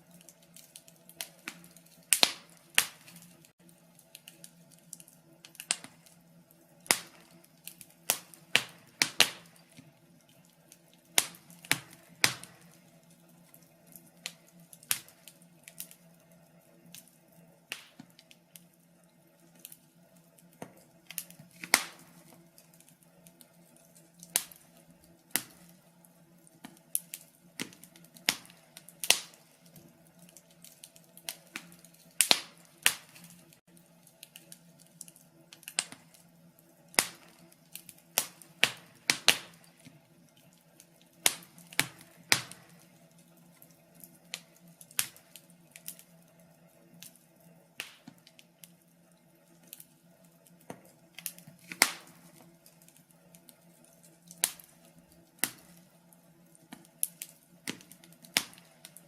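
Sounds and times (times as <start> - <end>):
faint steady hum: 0.0 - 59.0
wood fire crackling: 0.0 - 59.0.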